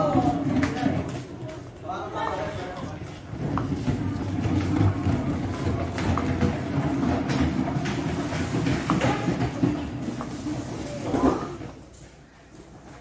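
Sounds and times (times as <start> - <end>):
small wheels rumbling on tiles: 0.0 - 13.0.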